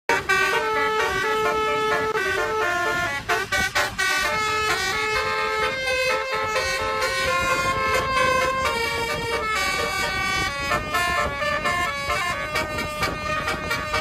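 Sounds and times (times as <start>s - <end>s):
bus horn playing a tune: 0.1s - 14.0s.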